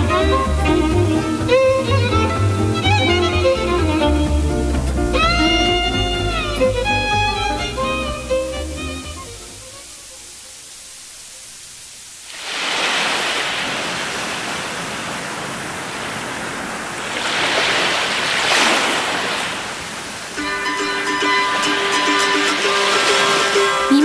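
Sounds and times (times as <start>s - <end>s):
faint tape hiss: 0.0s - 24.0s.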